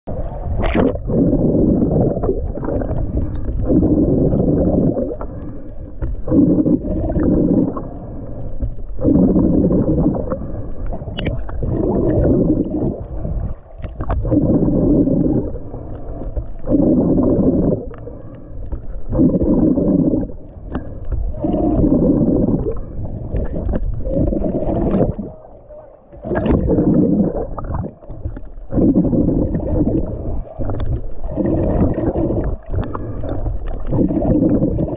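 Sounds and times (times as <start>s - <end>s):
muffled underwater rushing pulses: 0.1s - 34.9s.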